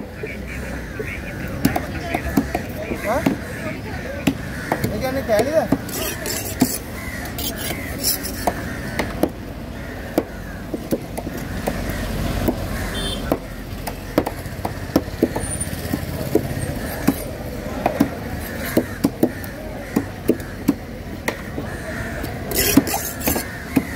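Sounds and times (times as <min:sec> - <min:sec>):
road traffic: 0:00.0 - 0:23.9.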